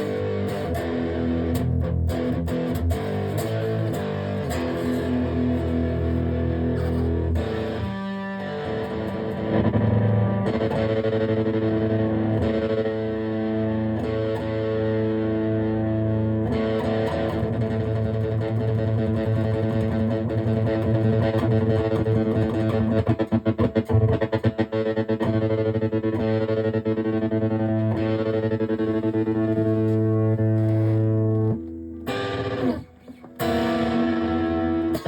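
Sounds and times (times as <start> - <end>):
distorted electric guitar: 0.0 - 35.0.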